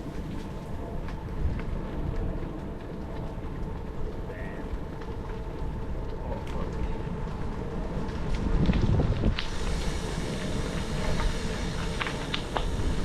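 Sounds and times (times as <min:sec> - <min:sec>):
bicycle tyres rolling on gravel: 0:00.0 - 0:13.0.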